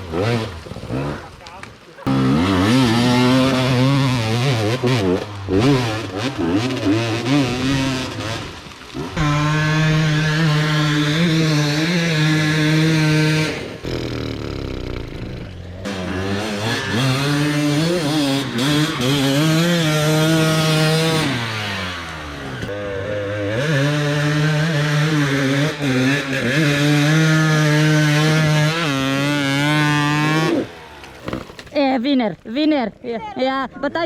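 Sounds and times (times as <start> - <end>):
dirt bike engine revving: 0.0 - 1.4, 2.0 - 31.6.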